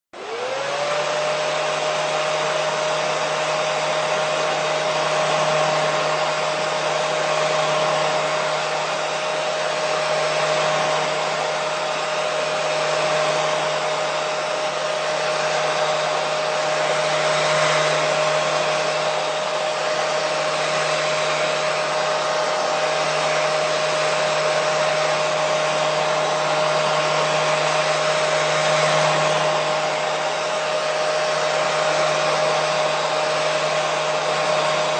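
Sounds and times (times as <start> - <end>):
hair dryer motor whine: 0.1 - 34.9
rush of blowing air: 0.2 - 34.9.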